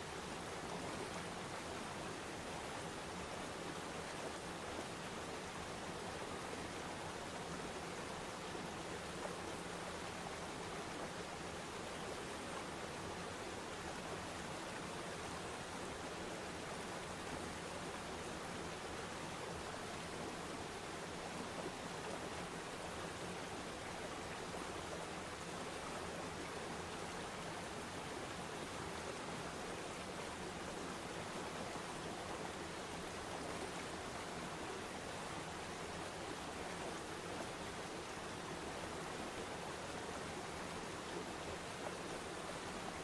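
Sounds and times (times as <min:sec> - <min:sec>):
waterfall and river rapids rushing: 0:00.0 - 0:43.0.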